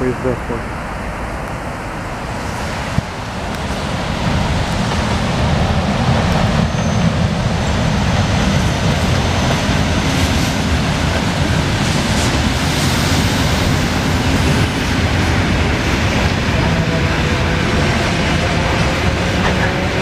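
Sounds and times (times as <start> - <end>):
train wheels rumbling on rails: 1.2 - 20.0.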